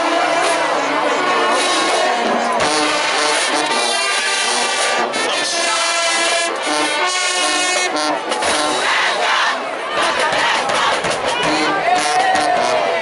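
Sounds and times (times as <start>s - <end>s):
marching band brass chords: 0.0s - 13.0s.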